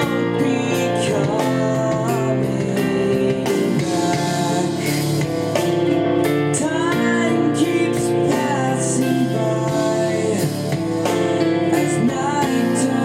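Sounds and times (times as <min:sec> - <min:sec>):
guitar: 0:00.0 - 0:13.0
person singing: 0:00.0 - 0:13.0.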